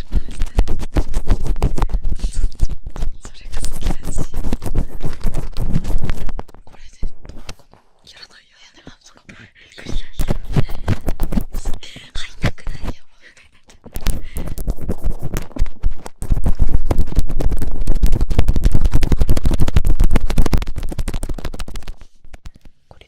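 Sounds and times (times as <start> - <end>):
scratching and rubbing on microphone: 0.0 - 22.5.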